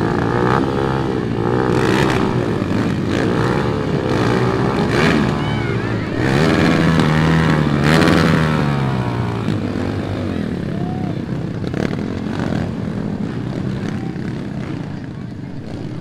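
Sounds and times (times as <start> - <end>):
dirt bike engine passing: 0.0 - 16.0.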